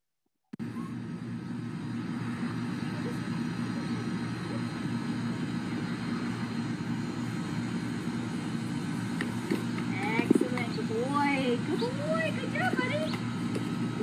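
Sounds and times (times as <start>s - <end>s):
low mechanical drone: 0.6s - 14.0s.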